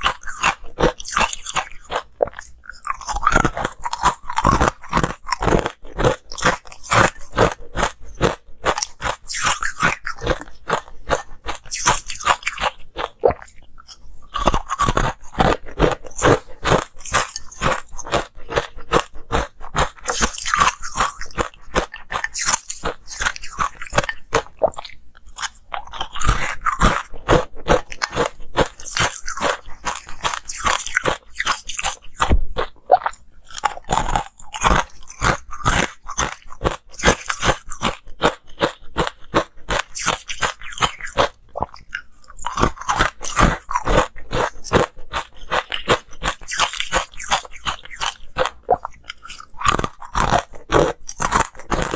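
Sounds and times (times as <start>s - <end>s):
ice cubes crunched by teeth: 0.0s - 51.9s.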